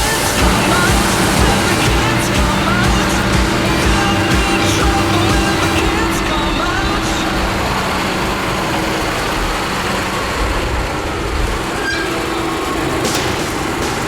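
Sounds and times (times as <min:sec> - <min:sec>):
farm machinery engine running: 0:00.0 - 0:14.0.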